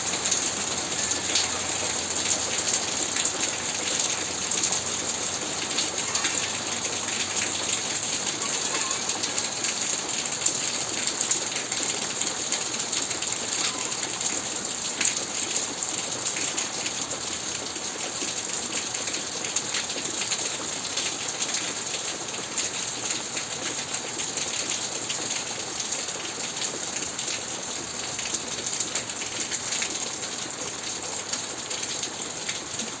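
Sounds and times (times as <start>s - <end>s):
steady rain pattering: 0.0s - 33.0s.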